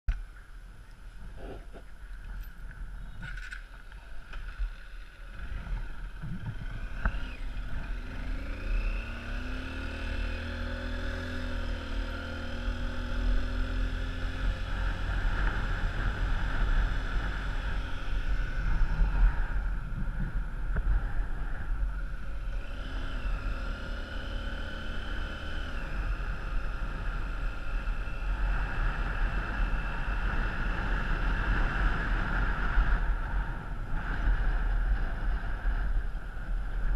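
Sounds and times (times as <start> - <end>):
vehicle engine running: 1.2 - 36.9.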